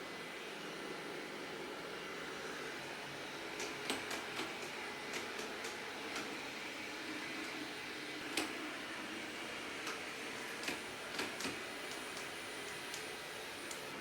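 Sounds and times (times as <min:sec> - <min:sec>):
robot vacuum whirring hum: 0:00.0 - 0:14.0.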